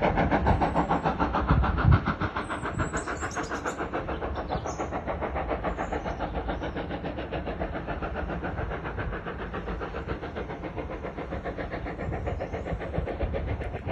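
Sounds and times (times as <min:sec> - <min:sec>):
steam locomotive exhaust beats: 0:00.0 - 0:13.9.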